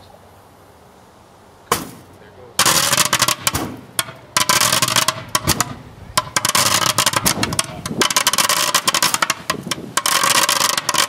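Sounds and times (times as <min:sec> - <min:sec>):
firework cracks and bangs: 0:01.7 - 0:11.0
firework rushing hiss: 0:01.7 - 0:11.0.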